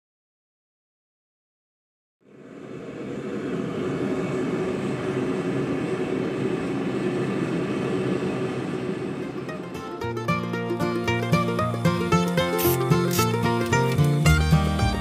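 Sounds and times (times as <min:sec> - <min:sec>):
gas forge burners rushing: 0:02.3 - 0:15.0.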